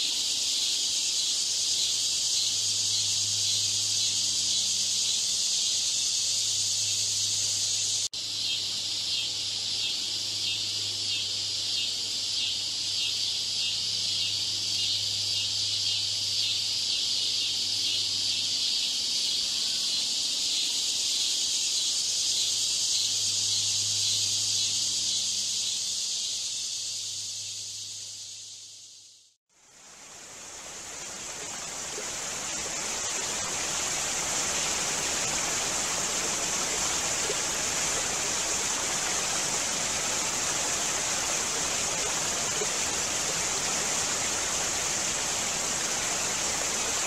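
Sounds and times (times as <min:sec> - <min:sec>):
insects chirring: 0:00.0 - 0:29.2, 0:29.8 - 0:47.0.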